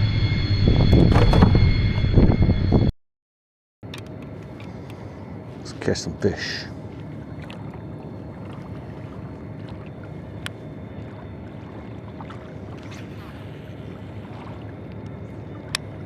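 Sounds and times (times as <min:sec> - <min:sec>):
boat engine rumble: 0:00.0 - 0:02.9, 0:03.8 - 0:16.0.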